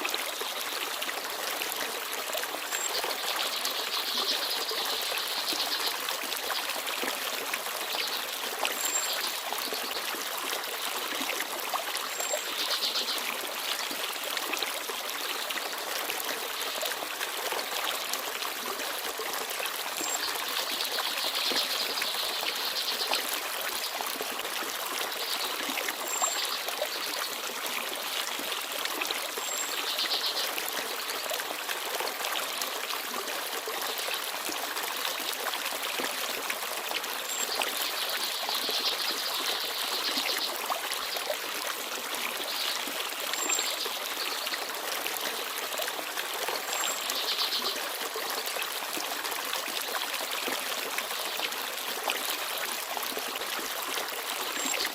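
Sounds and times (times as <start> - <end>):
stream babbling over stones: 0.0 - 54.9.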